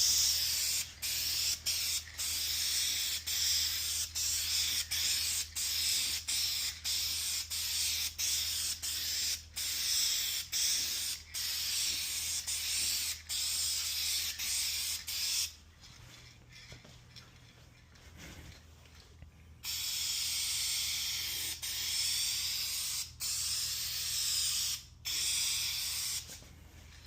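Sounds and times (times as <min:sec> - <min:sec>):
aerosol spray can hissing: 0:00.0 - 0:15.6, 0:19.6 - 0:26.4.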